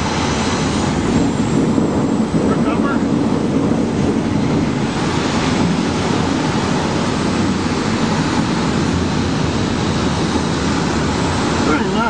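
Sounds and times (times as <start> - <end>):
rush of airflow over aircraft: 0.0 - 12.0.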